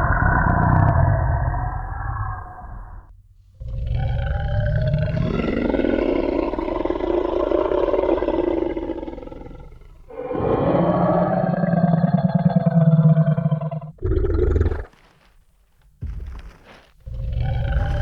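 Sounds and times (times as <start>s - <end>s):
dinosaur roar: 0.0s - 15.0s, 17.1s - 18.0s.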